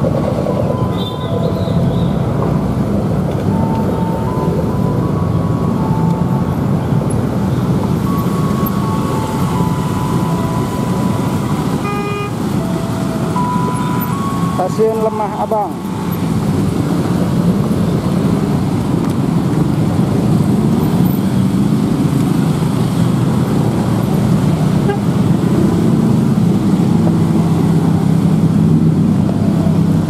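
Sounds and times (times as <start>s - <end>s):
dense road traffic: 0.0s - 30.0s.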